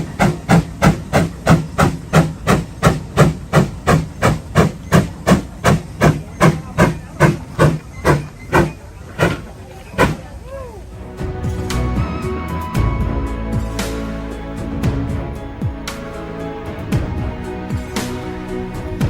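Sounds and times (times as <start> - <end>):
steam engine exhaust chuffing: 0.0 - 10.3, 11.0 - 19.0.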